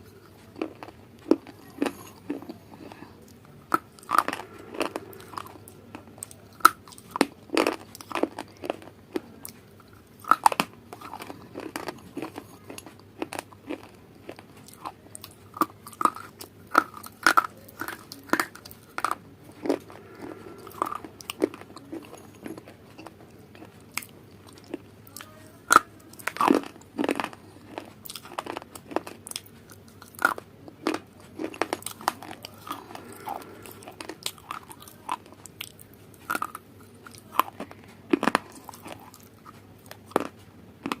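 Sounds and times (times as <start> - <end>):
person chewing crunchy food: 0.0 - 41.0.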